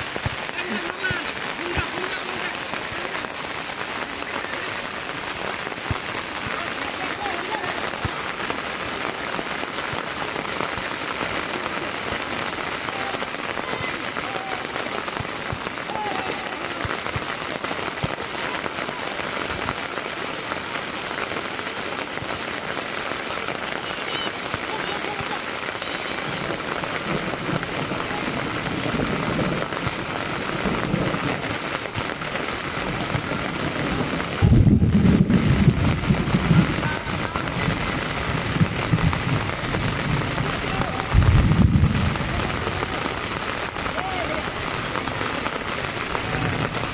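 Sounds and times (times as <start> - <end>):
heavy rain on ground: 0.0 - 46.9.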